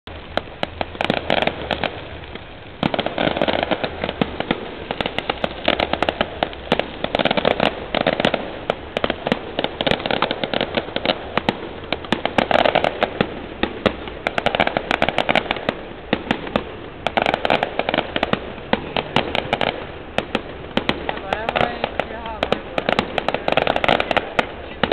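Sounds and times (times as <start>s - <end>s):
firecrackers popping: 0.0s - 24.9s.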